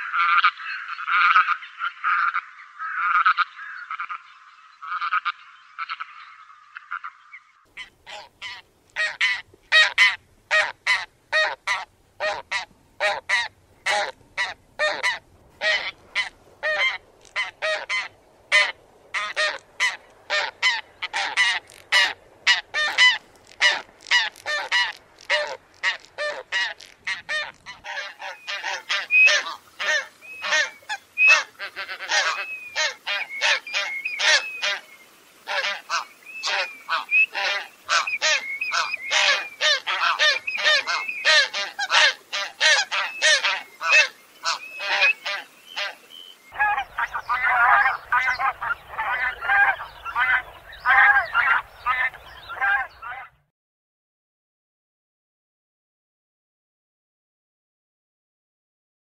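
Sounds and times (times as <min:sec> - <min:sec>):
geese honking: 0:00.0 - 0:07.2, 0:07.8 - 0:53.4.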